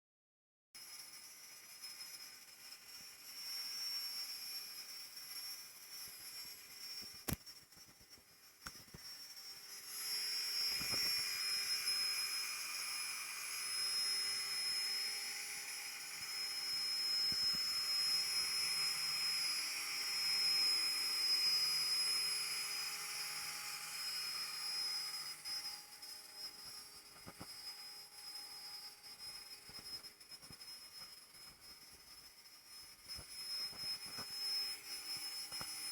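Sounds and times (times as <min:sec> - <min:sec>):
router spindle whine: 0:00.8 - 0:35.9.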